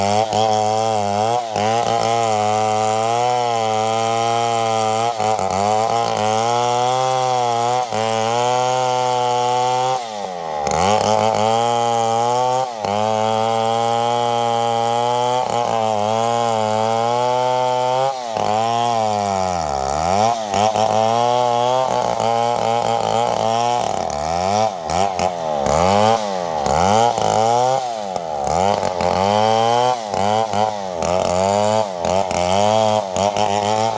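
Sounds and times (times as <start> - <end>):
chainsaw cutting log: 0.0 - 33.9.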